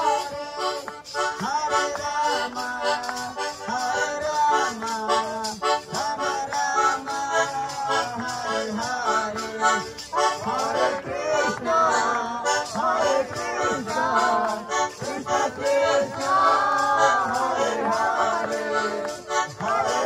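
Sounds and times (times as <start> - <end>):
harmonium playing: 0.0 - 20.0
percussion beat: 0.0 - 20.0
person singing: 0.0 - 20.0.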